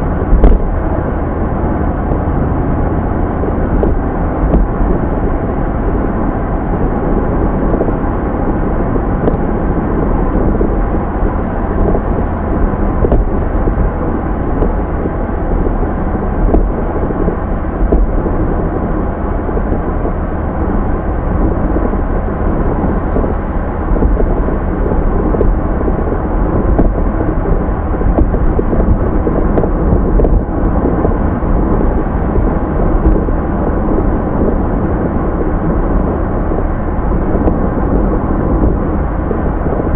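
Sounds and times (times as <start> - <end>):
car engine running steadily: 0.0 - 39.9.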